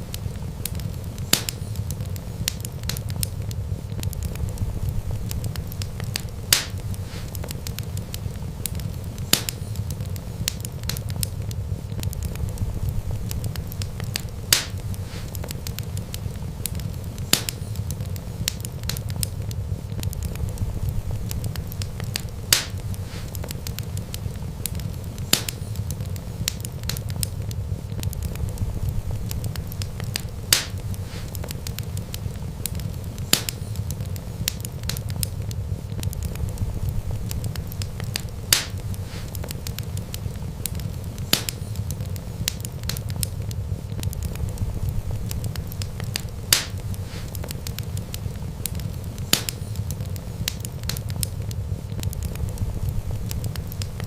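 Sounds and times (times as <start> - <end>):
sharp pops of fire: 0.0 - 54.0
wood fire crackling: 0.0 - 54.0.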